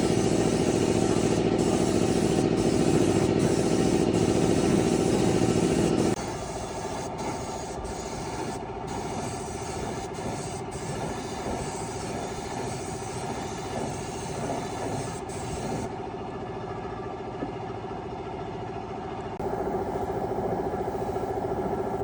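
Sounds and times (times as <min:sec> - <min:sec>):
motor running with rumble: 0:00.0 - 0:22.0.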